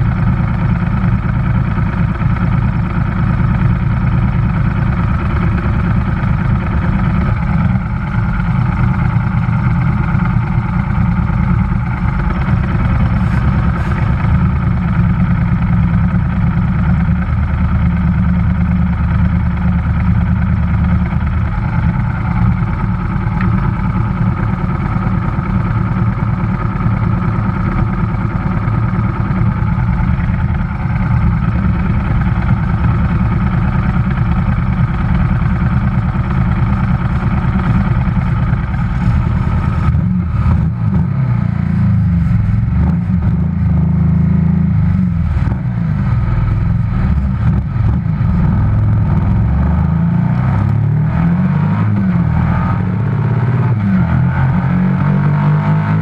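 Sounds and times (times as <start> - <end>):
motorcycle engine idling: 0.0 - 54.5
other motorcycles running: 0.0 - 56.0.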